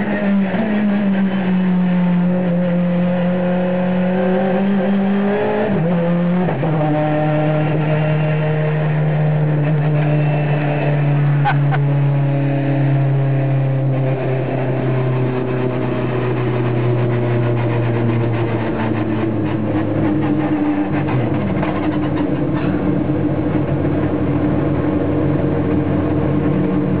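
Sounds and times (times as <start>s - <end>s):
car engine at low revs: 0.0s - 27.0s.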